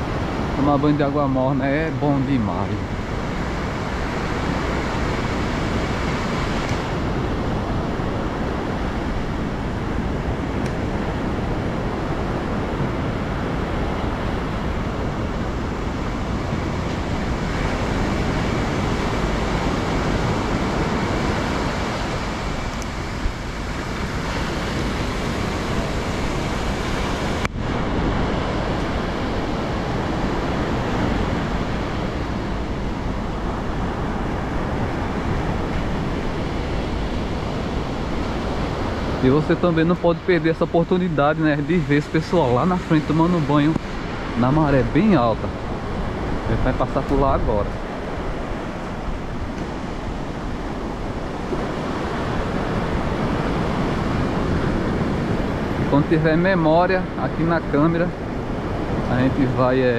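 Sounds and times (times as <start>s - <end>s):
ocean surf: 0.0s - 59.9s
wind rumbling on microphone: 0.0s - 59.9s.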